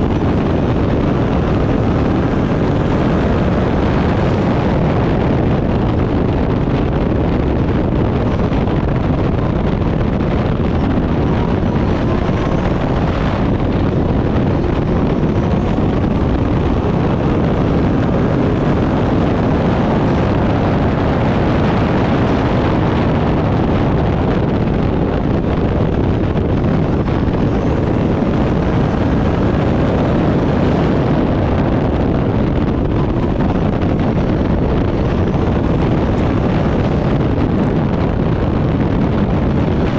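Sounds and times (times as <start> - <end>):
race car engine roaring: 0.0 - 39.9
wind rushing over microphone: 0.0 - 39.9.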